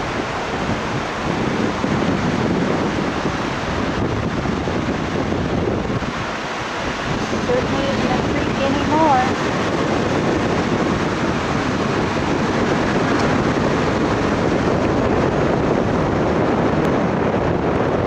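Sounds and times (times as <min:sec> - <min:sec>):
floodwaters rushing: 0:00.0 - 0:17.2.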